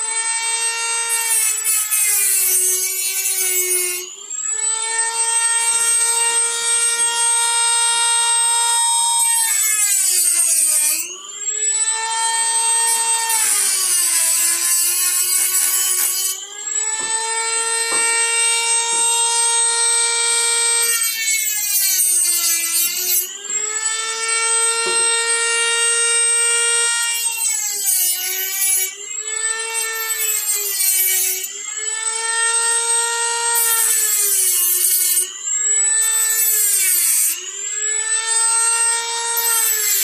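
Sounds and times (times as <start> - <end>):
rotary tool high whine: 0.0 - 40.0.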